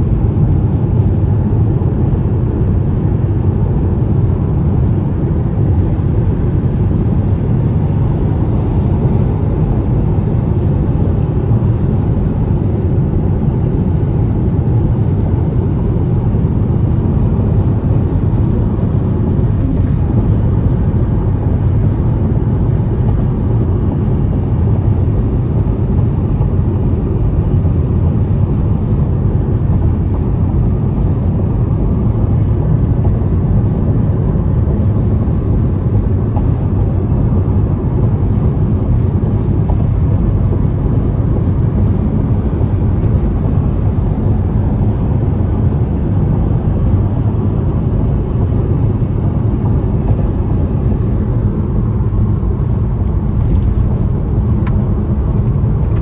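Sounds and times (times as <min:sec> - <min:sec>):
car tyre and road noise: 0:00.0 - 0:56.0.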